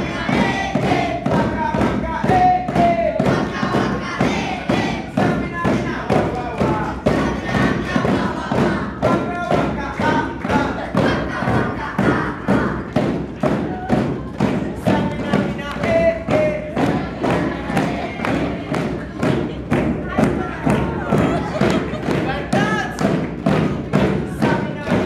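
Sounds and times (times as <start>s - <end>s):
djembes drumming: 0.0s - 25.0s.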